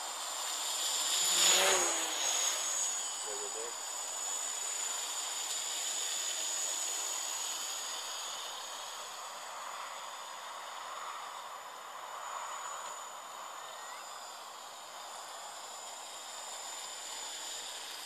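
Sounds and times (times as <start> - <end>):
quadcopter propellers whirring: 0.0 - 18.0.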